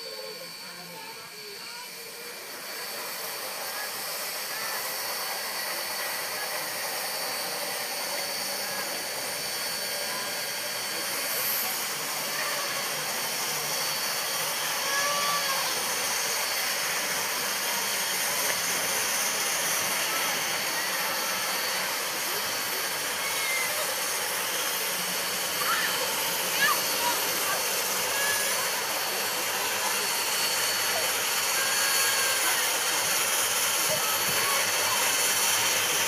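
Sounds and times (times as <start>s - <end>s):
steam locomotive hissing: 0.0s - 36.0s.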